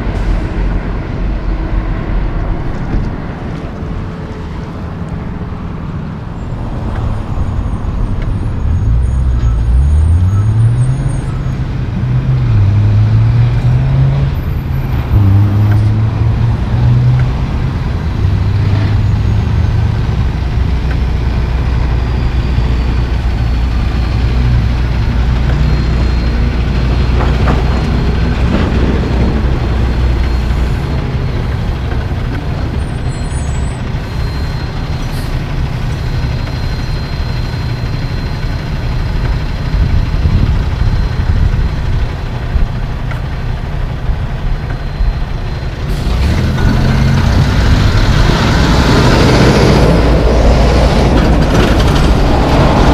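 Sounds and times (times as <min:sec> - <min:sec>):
diesel truck engine passing: 0:00.0 - 0:52.9
tyre and road noise: 0:00.0 - 0:52.9.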